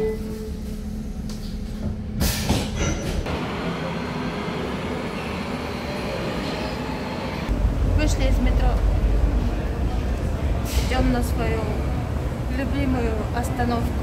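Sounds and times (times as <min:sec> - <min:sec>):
underground train rumbling: 0:00.0 - 0:14.0.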